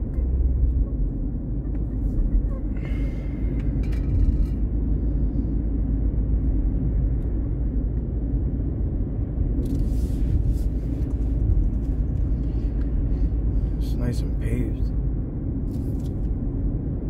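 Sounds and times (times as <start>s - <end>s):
car driving heard from cabin: 0.0s - 17.0s.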